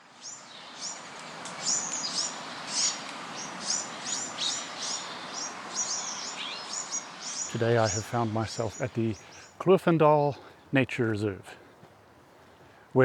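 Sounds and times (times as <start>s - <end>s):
faint outdoor background hiss: 0.0s - 13.0s
small birds chirping: 0.0s - 13.0s.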